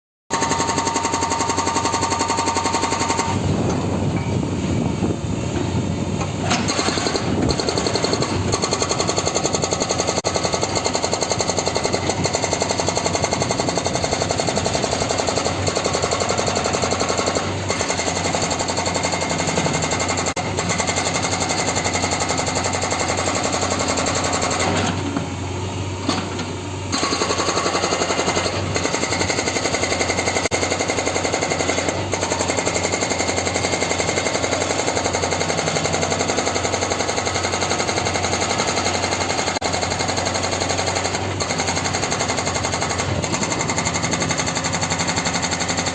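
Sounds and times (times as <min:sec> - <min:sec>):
hydraulic rock breaker hammering: 0:00.3 - 0:25.4, 0:26.0 - 0:45.9
machine engine running: 0:00.3 - 0:45.9.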